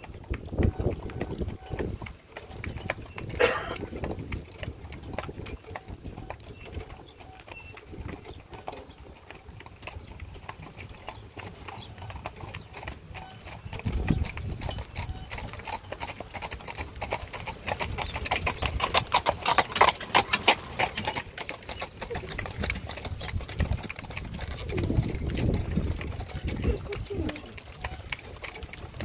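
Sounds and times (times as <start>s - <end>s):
horse hooves clip-clopping on dirt: 0.0s - 29.0s.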